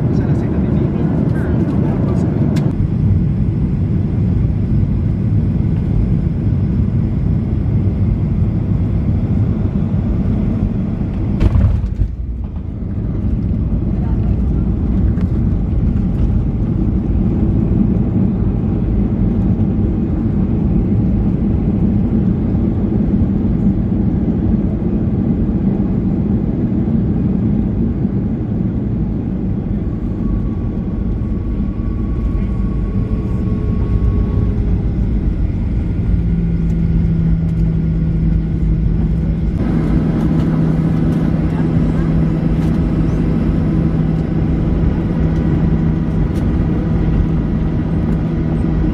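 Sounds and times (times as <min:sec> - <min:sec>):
airflow over airframe: 0:00.0 - 0:48.9
jet engines rumbling: 0:00.0 - 0:48.9
steady low hum: 0:00.0 - 0:48.9.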